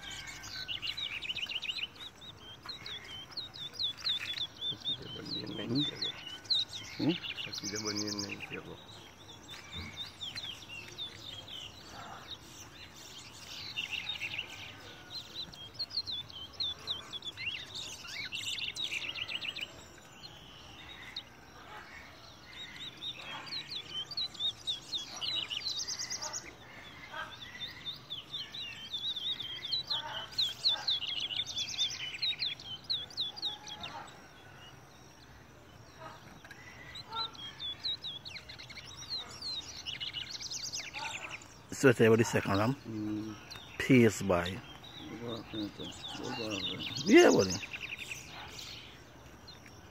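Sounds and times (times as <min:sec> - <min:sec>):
finch singing high chirps: 0:00.0 - 0:49.9.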